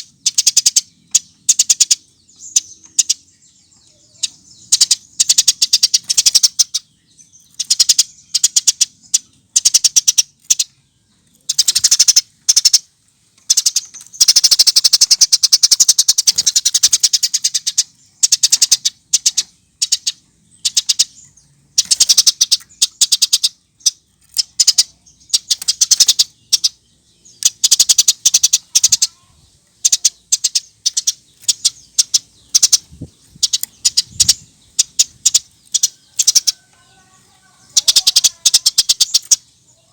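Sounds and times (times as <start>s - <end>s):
sparrow chirping: 0.0s - 39.9s.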